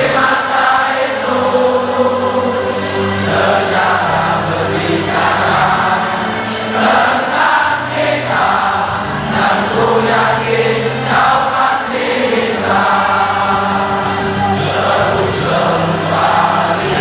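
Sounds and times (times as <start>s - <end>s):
stadium crowd singing a chant: 0.0s - 17.0s.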